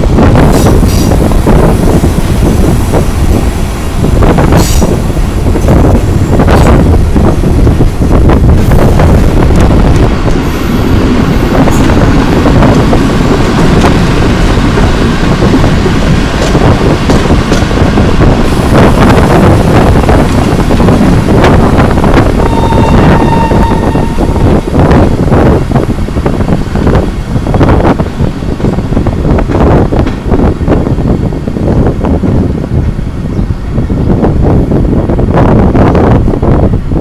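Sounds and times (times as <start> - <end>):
train rumbling over track: 0.0 - 37.0
wind on microphone: 0.0 - 37.0.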